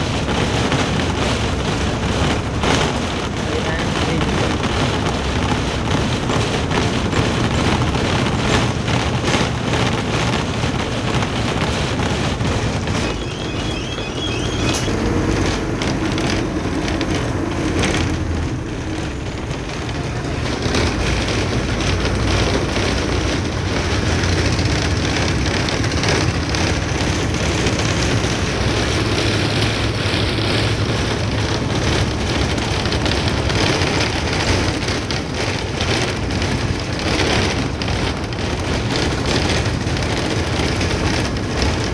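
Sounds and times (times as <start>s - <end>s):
road noise: 0.0s - 41.9s
truck engine rumble: 0.0s - 41.9s.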